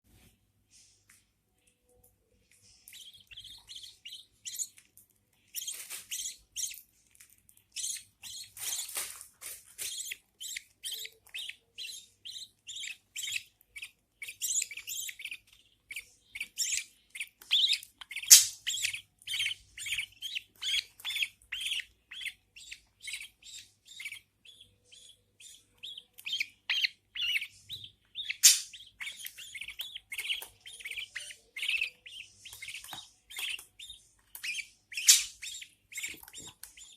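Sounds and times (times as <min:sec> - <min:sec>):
chicks cheeping: 0:01.6 - 0:36.9.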